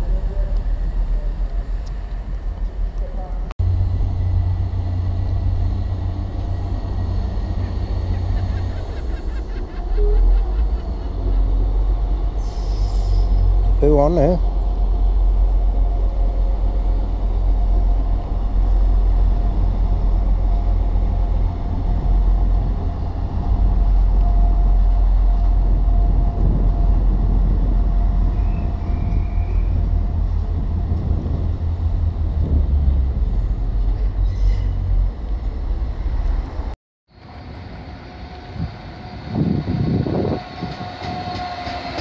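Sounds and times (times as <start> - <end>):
diesel train pulling away: 0.0 - 42.0.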